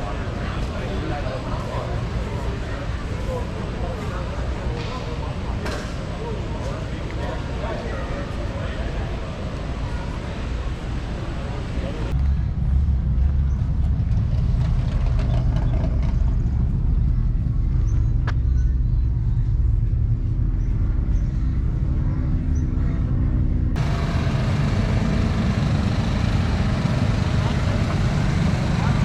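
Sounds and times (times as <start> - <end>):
engine running with low rumble: 0.0 - 29.0.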